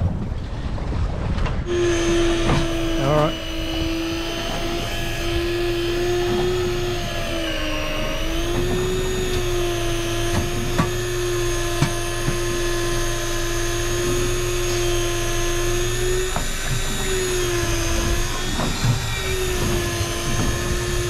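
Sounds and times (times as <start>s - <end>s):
deep hum: 0.0s - 21.0s
fishing reel motor whining: 1.7s - 21.0s.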